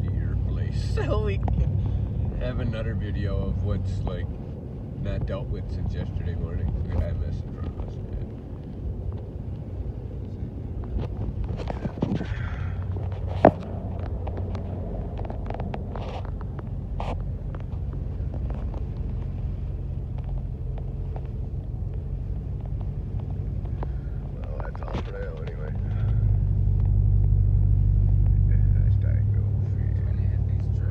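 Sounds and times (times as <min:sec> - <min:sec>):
car engine and tyres rumbling: 0:00.0 - 0:30.9.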